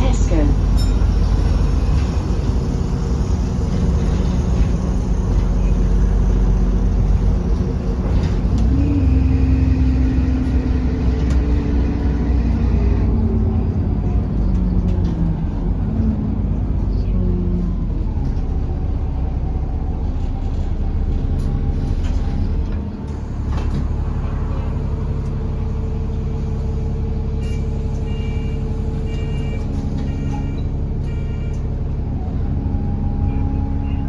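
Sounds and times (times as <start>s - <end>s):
bus engine humming: 0.0s - 34.0s.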